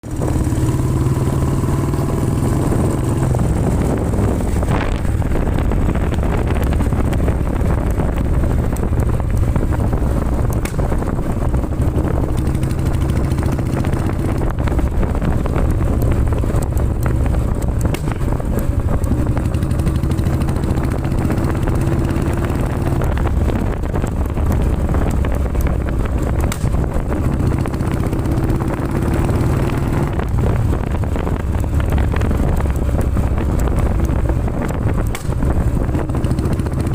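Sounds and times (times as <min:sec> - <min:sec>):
exhaust pops and crackles: 0:00.0 - 0:36.9
motorcycle engine running: 0:00.0 - 0:36.9.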